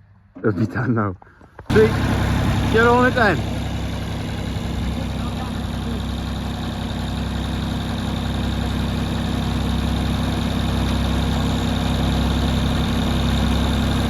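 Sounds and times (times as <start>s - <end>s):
tractor engine idling: 1.7s - 14.0s.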